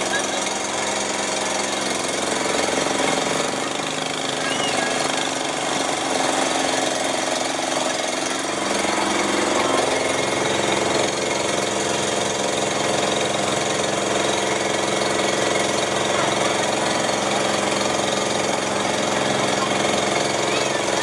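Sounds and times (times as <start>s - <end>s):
engine running with knocking: 0.0s - 21.0s.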